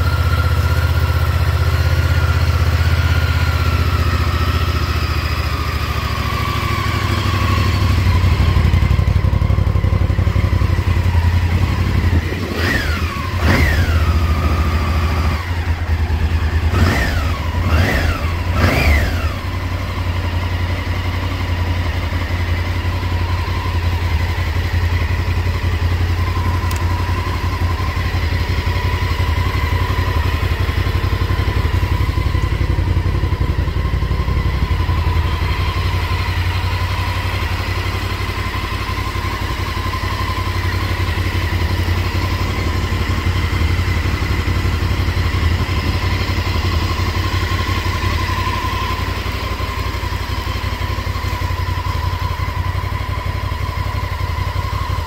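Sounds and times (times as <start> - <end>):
motorcycle engine idling: 0.0 - 55.0
motorcycle engine revving: 0.0 - 55.0.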